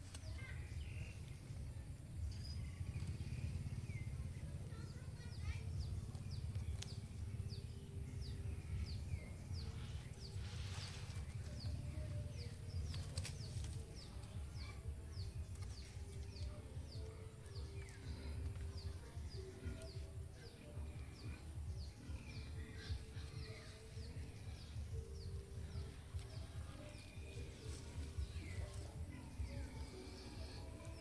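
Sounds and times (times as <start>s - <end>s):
low steady rumble: 0.7s - 31.0s.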